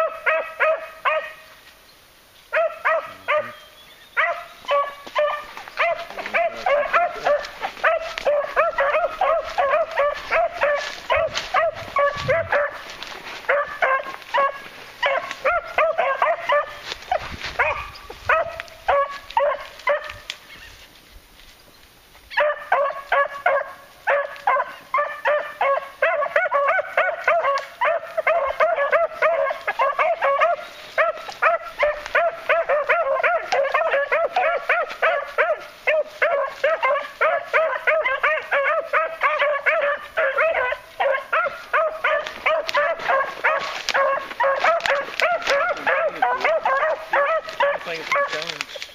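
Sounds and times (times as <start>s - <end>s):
dogs baying: 0.0s - 1.4s, 2.5s - 3.6s, 4.2s - 20.3s, 22.3s - 48.7s.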